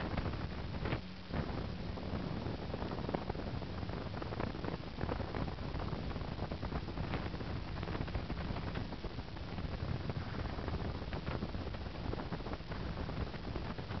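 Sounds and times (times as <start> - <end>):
outboard engine drone: 0.0 - 14.0
wind buffeting microphone: 0.0 - 14.0.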